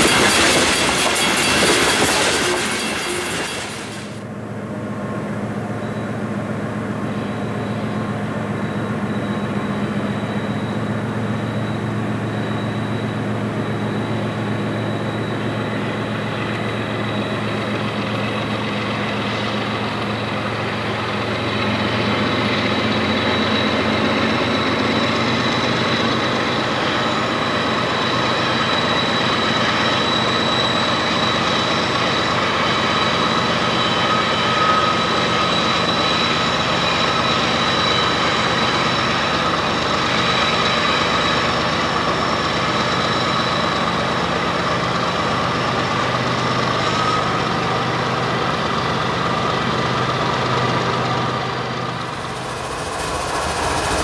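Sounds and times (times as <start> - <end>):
diesel locomotive engines running: 0.0 - 54.0.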